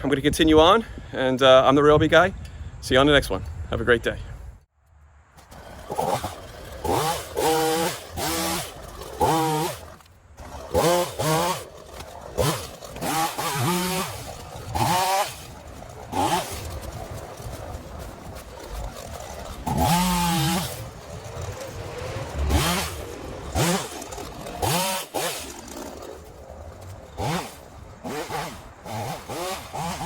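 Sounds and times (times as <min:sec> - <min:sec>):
chainsaw starter cord yanks: 0:05.4 - 0:30.0.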